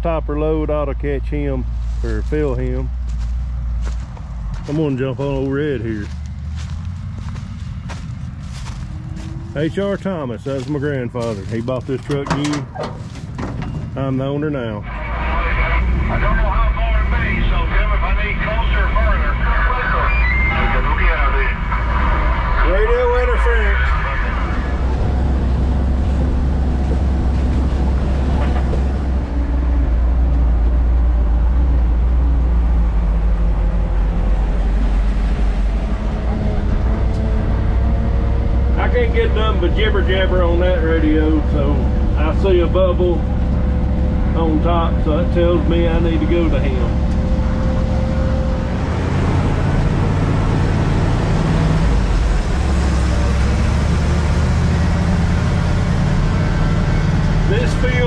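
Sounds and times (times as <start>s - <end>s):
truck engine droning: 0.0s - 58.0s.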